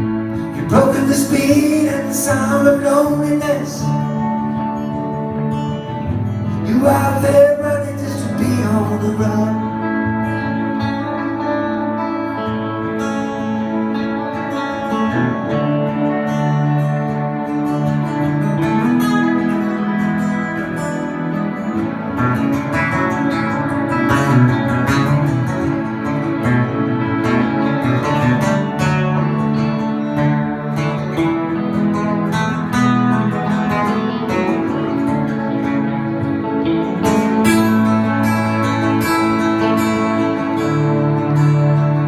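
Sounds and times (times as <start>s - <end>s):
acoustic guitar country-folk music: 0.0s - 42.0s.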